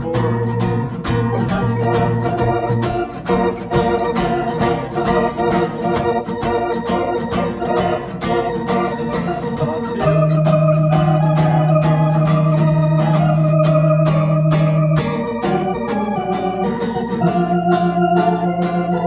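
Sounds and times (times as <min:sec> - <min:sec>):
sustained organ chords: 0:00.0 - 0:19.0.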